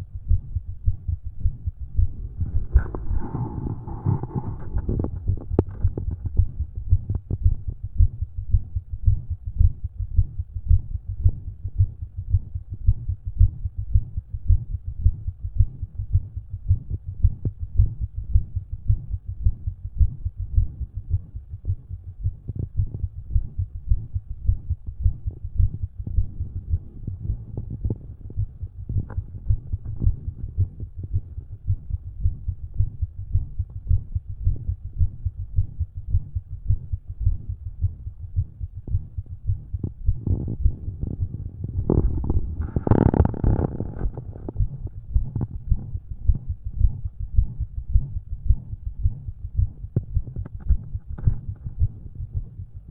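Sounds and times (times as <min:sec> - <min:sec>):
heartbeat through stethoscope: 0:00.0 - 0:52.9.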